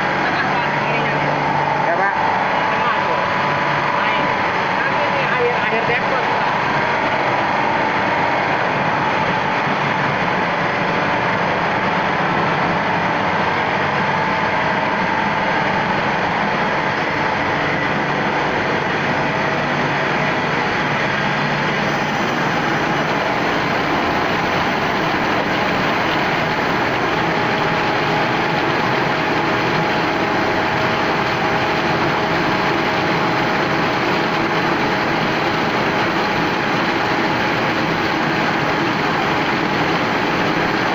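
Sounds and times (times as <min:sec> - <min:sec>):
refrigeration compressor running: 0:00.0 - 0:40.9.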